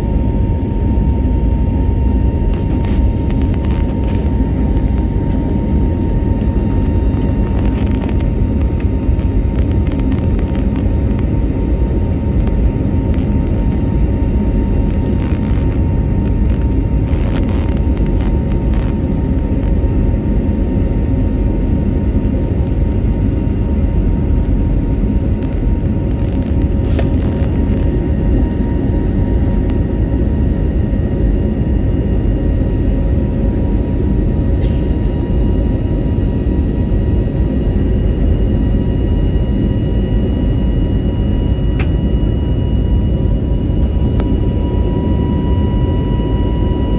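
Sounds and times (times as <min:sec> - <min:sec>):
jet cabin engine rush: 0:00.0 - 0:46.9.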